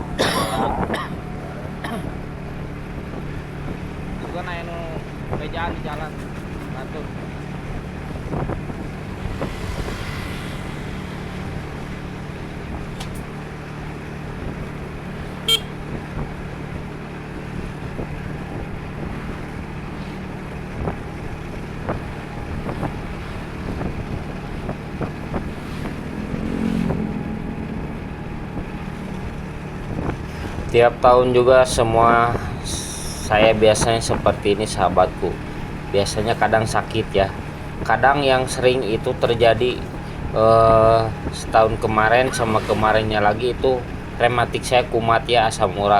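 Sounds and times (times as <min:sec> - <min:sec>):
motorcycle engine and road noise: 0:00.0 - 0:45.9.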